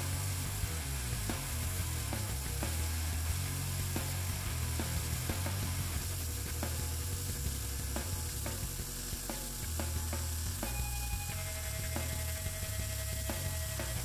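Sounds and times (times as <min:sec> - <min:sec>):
steady low hum: 0:00.0 - 0:14.0
welding arc crackling: 0:00.0 - 0:14.0.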